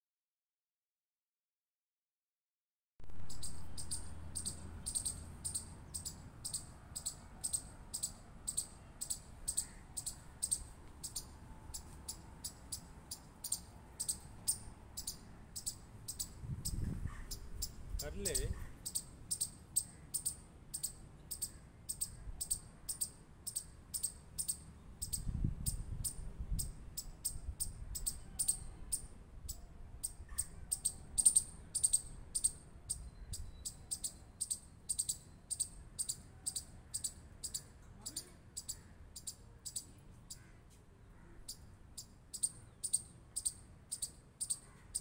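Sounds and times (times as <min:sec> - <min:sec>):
chipmunk chip calls: 0:03.1 - 0:45.0.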